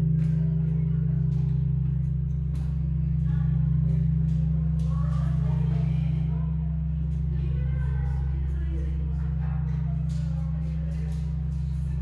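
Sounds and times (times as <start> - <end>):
large bell humming deep tone: 0.0 - 12.0.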